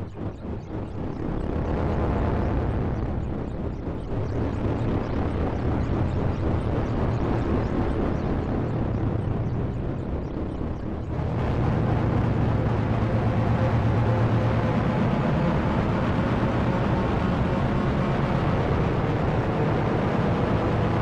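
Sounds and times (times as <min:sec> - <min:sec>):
low hum: 0:00.0 - 0:21.0
low synth drone: 0:00.0 - 0:21.0
synthesizer rumbling texture: 0:00.0 - 0:21.0.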